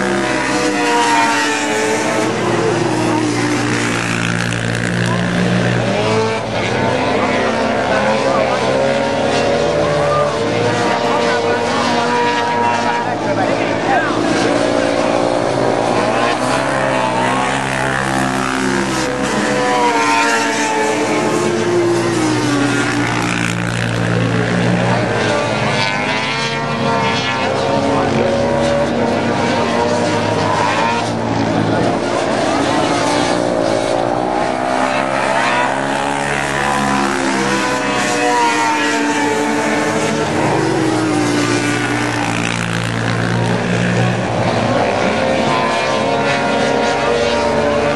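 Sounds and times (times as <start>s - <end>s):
racing quad engines: 0.0s - 47.9s.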